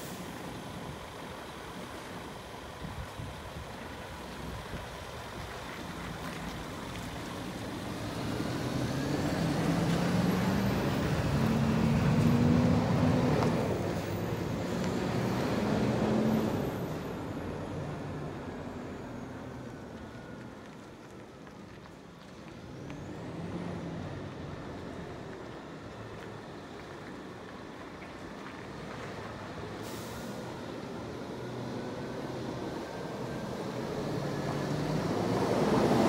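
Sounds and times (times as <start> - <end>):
diesel truck engine pulling away: 0.0 - 36.0.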